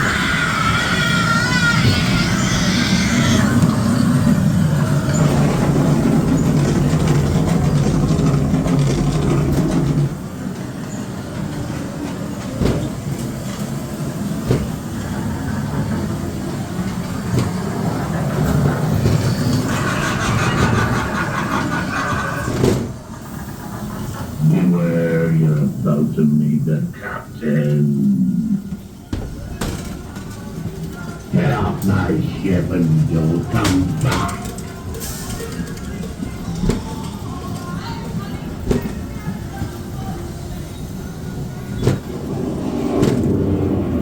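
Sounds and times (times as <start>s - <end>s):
ride car running on rail track: 0.0s - 44.0s.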